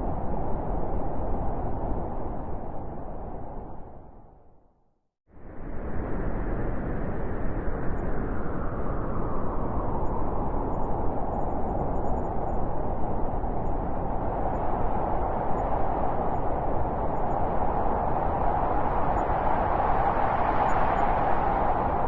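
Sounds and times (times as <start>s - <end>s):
blizzard wind howling: 0.0s - 4.7s, 5.3s - 22.0s.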